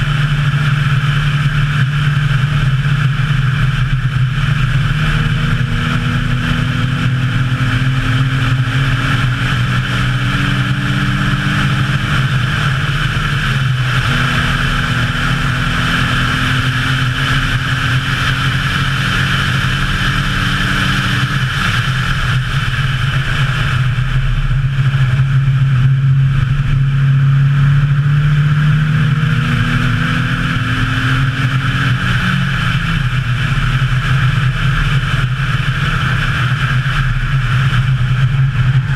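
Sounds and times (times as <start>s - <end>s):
car engine revving hard: 0.0s - 38.9s
wind and road noise: 0.0s - 38.9s.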